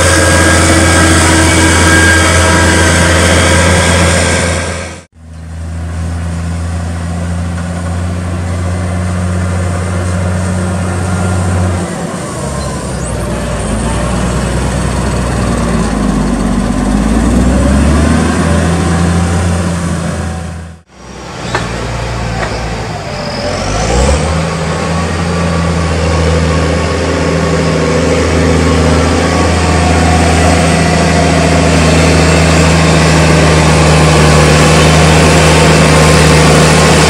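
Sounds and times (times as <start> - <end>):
tractor diesel engine working: 0.0 - 37.0.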